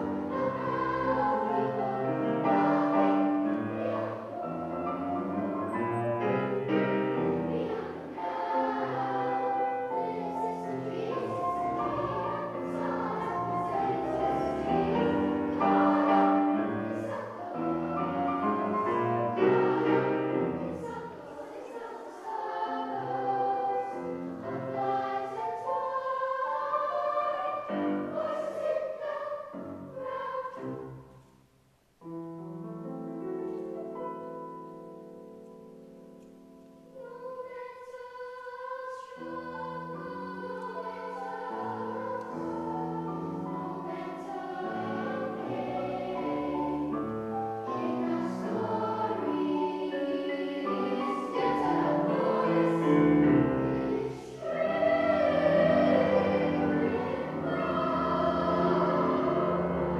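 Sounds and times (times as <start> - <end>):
children's choir singing: 0.0 - 31.2, 32.0 - 59.9
piano accompaniment: 0.0 - 31.2, 32.0 - 37.1, 39.3 - 59.9.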